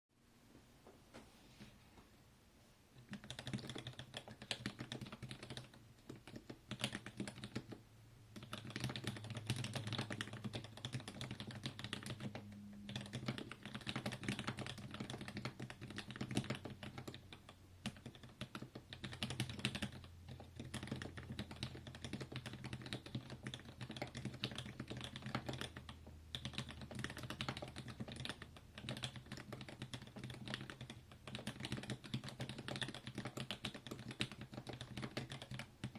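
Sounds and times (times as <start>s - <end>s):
mechanical keyboard typing: 3.0s - 35.9s.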